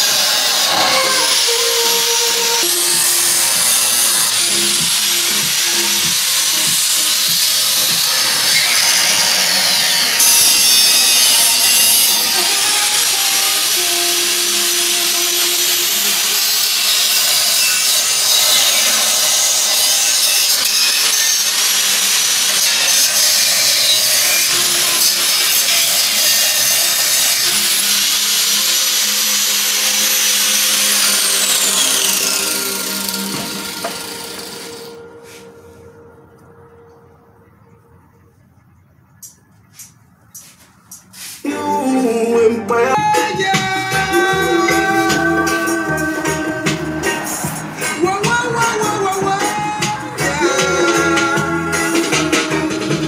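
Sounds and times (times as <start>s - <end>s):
background music: 0.0s - 20.4s, 22.8s - 38.5s, 41.4s - 53.0s
angle grinder sanding wood: 0.0s - 35.7s, 43.0s - 53.0s.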